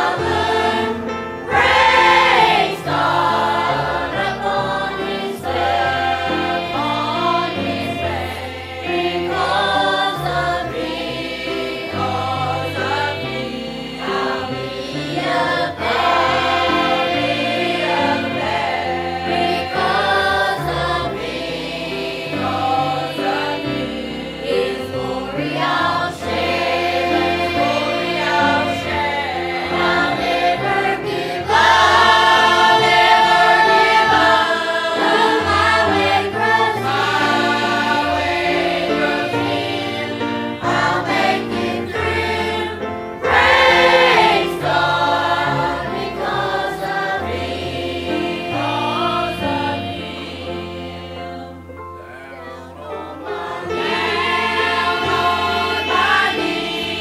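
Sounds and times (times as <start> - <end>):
congregation singing a hymn: 0.0 - 57.0
instrumental accompaniment: 0.0 - 57.0.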